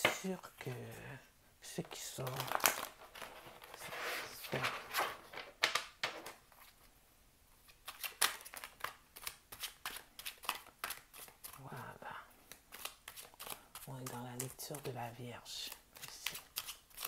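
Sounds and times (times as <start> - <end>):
cards shuffling and rustling: 1.8 - 6.9, 7.6 - 11.7, 12.4 - 17.0.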